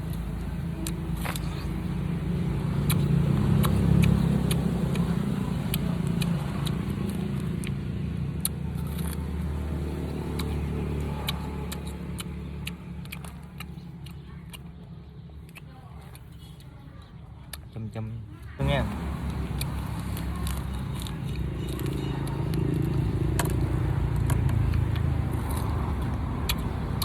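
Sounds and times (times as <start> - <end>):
passing vehicle rumble: 0.0 - 15.6, 18.6 - 27.0
person chewing crunchy fruit: 0.0 - 17.8, 18.6 - 27.0.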